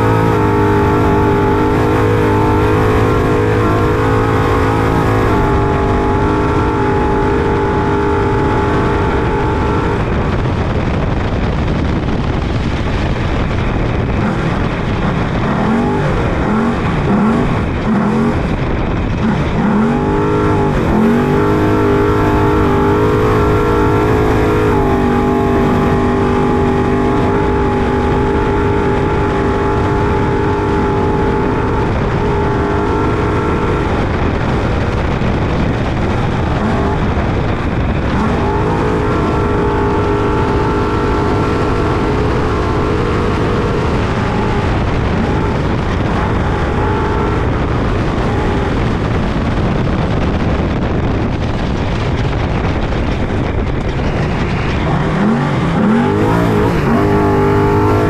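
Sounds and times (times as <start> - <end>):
rush of noise: 0.0 - 58.0
truck engine running hard: 0.0 - 58.0.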